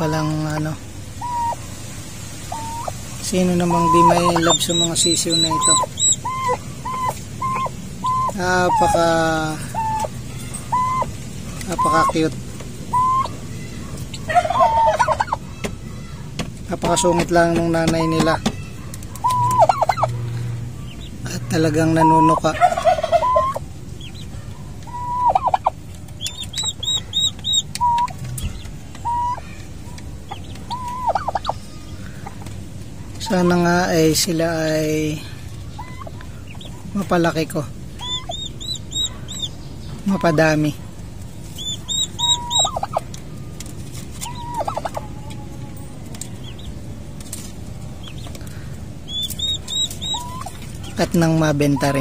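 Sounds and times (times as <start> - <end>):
turkey hen calling: 0.0 - 52.0
turkey poults peeping: 0.0 - 52.0.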